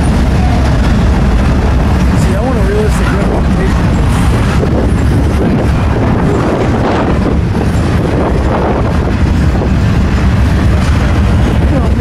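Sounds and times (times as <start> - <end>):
freight train rumbling past: 0.0 - 12.0
wind buffeting microphone: 0.0 - 12.0.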